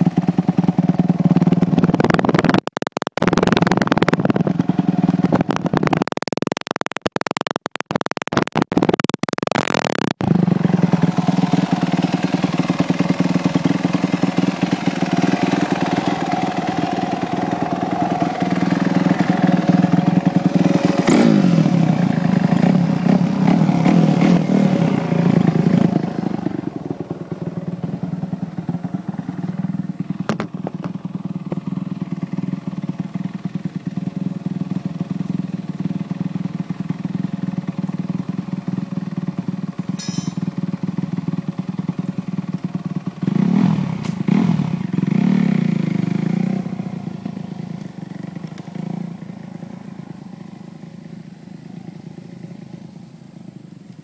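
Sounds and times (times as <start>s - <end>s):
motorcycle engine idling: 0.0s - 2.6s, 3.2s - 6.0s, 10.2s - 54.0s.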